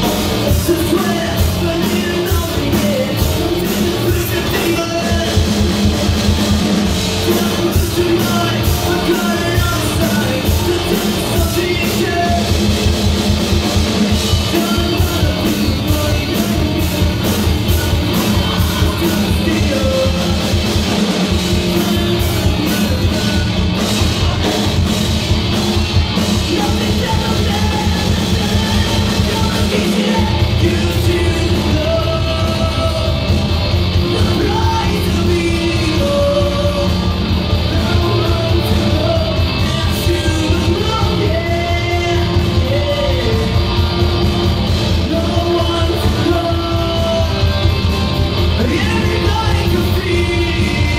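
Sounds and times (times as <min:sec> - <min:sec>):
person singing: 0:00.0 - 0:13.0, 0:14.1 - 0:25.0, 0:25.7 - 0:50.9
bass guitar: 0:00.0 - 0:50.9
drum kit: 0:00.0 - 0:50.9
electric guitars: 0:00.0 - 0:50.9.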